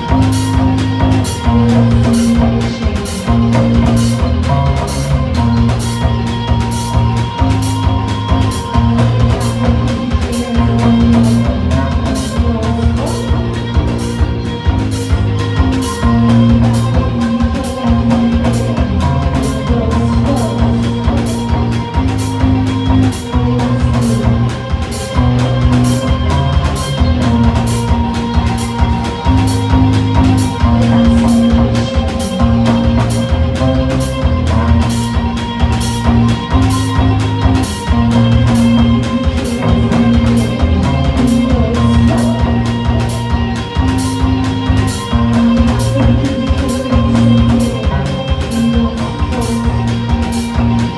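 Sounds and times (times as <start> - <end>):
drum kit beat: 0.0 - 50.9
electric guitar riffs: 0.0 - 50.9.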